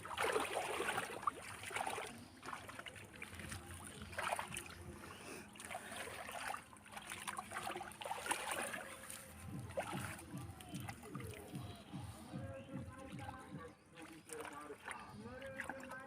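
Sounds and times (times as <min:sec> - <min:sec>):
river water splashing: 0:00.0 - 0:16.0.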